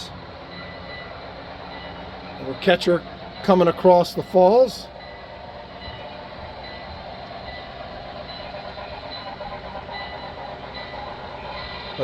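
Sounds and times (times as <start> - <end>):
model train rolling rumble: 0.0 - 12.0.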